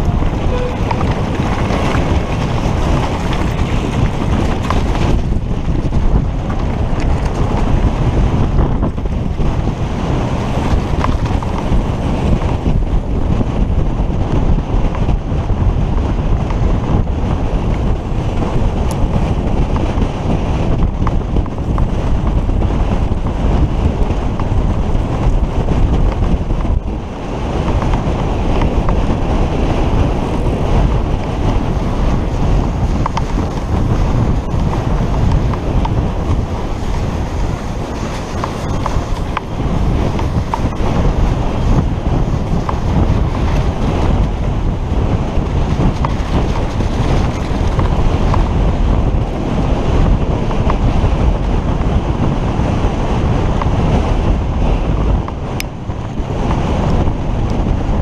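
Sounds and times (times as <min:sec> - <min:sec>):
bike rattling: 0:00.0 - 0:58.0
tyres rumbling on rough ground: 0:00.0 - 0:58.0
wind buffeting microphone: 0:00.0 - 0:58.0.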